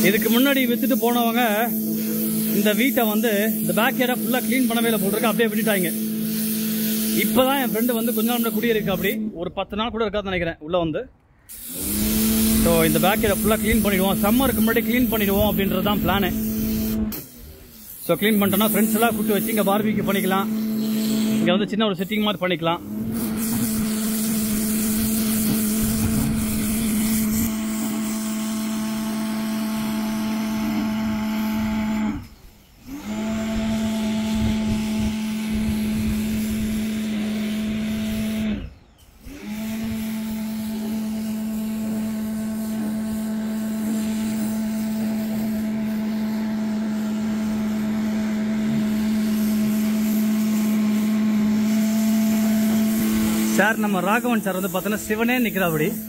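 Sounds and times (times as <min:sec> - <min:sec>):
pressure washer spraying: 0:00.0 - 0:09.2, 0:11.5 - 0:56.0.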